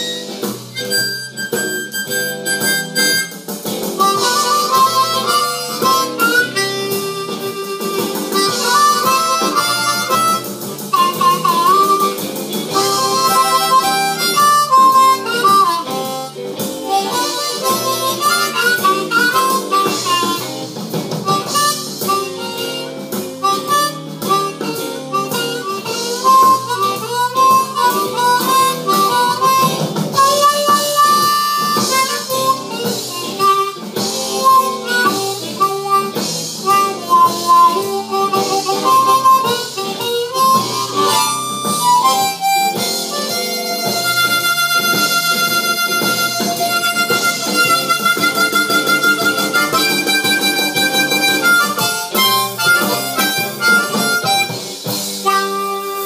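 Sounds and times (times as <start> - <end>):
harmonica playing blues: 0.0 - 56.0.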